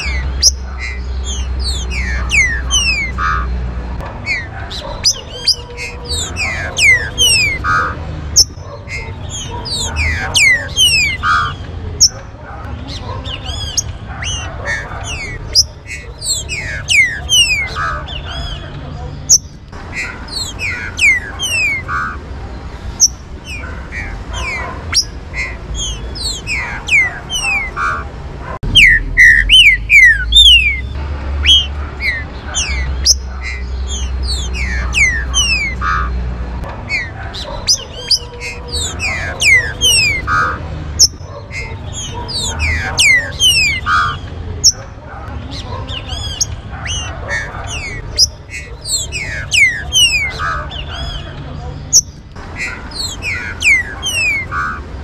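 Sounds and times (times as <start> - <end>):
bird whistled song: 0.0 - 3.6, 4.2 - 12.2, 12.9 - 22.2, 22.9 - 28.1, 28.7 - 36.2, 36.9 - 44.9, 45.5 - 51.3, 51.9 - 54.9.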